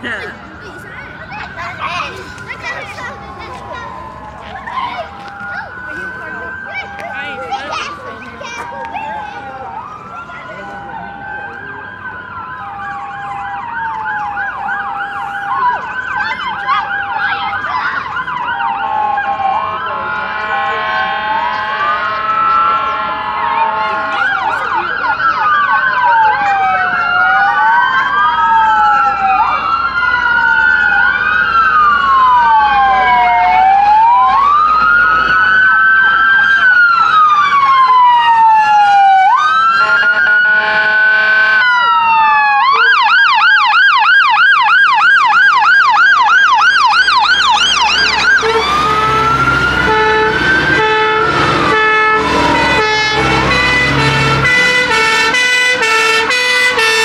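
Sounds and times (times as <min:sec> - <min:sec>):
heavy engine rumble: 0:00.0 - 0:42.9, 0:46.1 - 0:57.0
emergency sirens wailing: 0:00.0 - 0:57.0.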